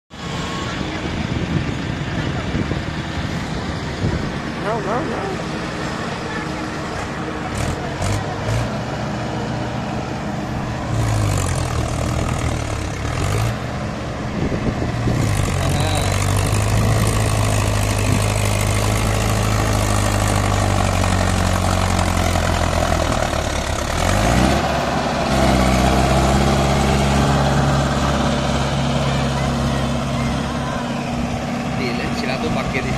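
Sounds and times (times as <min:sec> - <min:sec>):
tractor diesel engine under load: 0:00.1 - 0:32.9.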